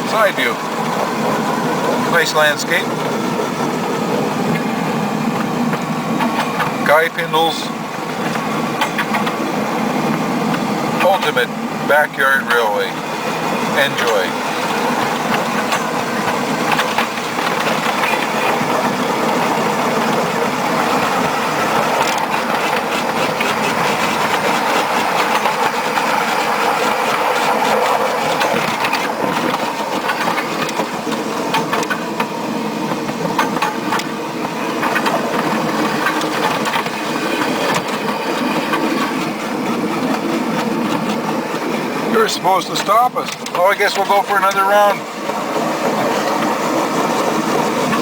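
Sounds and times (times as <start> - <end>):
wheels clicking over rails: 0.0 - 48.0.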